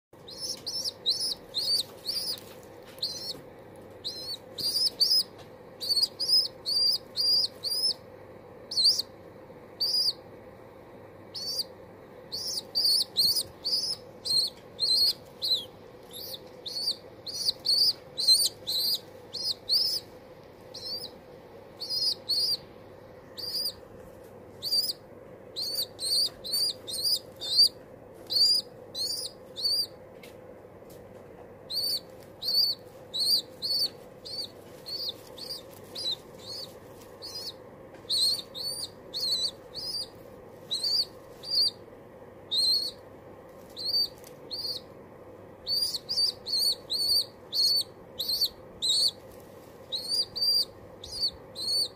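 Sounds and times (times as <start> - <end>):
pigeon squabs peeping: 0.2 - 9.2, 9.8 - 10.2, 11.3 - 24.0, 24.6 - 30.0, 31.7 - 41.9, 42.5 - 43.0, 43.6 - 44.9, 45.6 - 51.9.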